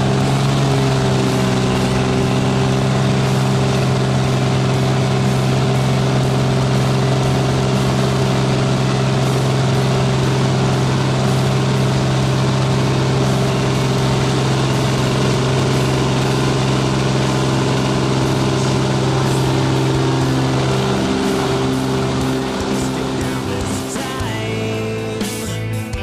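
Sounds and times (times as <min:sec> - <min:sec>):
propeller engine drone: 0:00.0 - 0:26.0.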